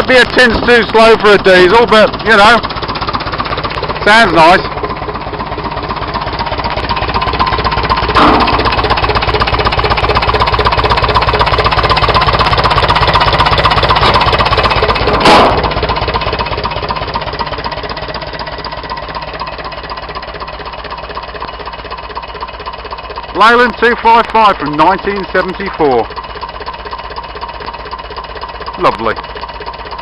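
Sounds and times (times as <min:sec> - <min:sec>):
diesel engine clattering: 0:00.0 - 0:30.0.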